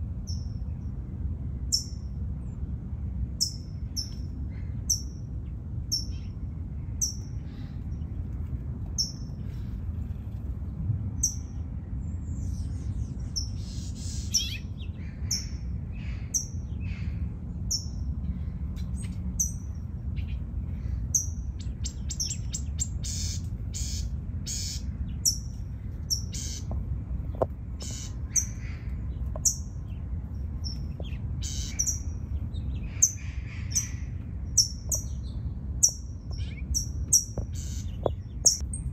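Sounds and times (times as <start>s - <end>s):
small songbirds chirping: 0.0s - 38.9s
steady low rumble: 0.0s - 38.9s.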